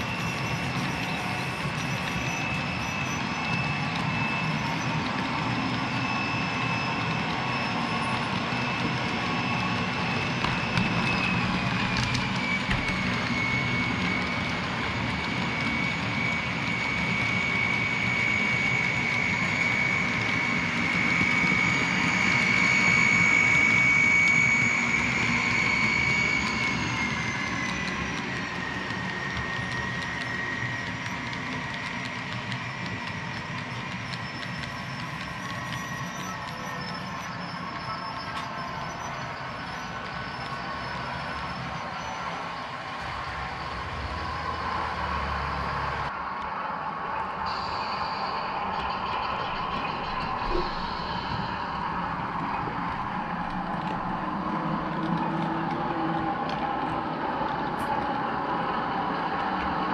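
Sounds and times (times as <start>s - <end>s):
model train wheels rumbling: 0.0s - 46.1s, 47.2s - 59.9s
model locomotive whine: 0.0s - 59.9s.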